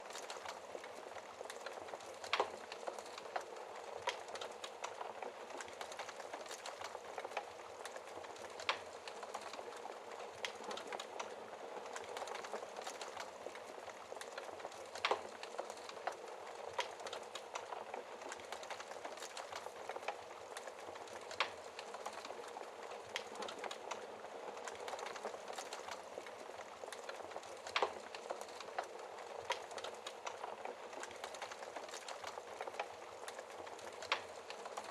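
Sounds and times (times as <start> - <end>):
logs crackling in fireplace: 0.0 - 34.9.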